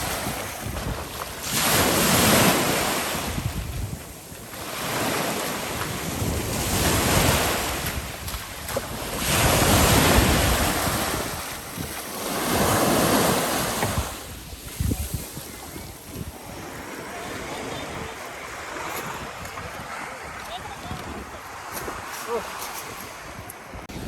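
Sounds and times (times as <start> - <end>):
waves breaking on shore: 0.0 - 24.0
wind buffeting microphone: 0.0 - 24.0.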